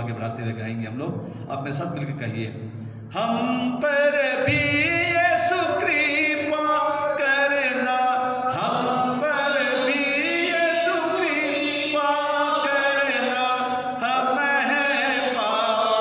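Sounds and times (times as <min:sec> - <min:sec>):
man singing a hymn: 0:03.1 - 0:16.0.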